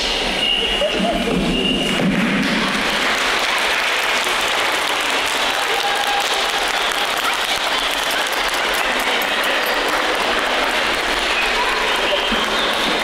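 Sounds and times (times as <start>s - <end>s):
children applauding: 1.8s - 13.0s.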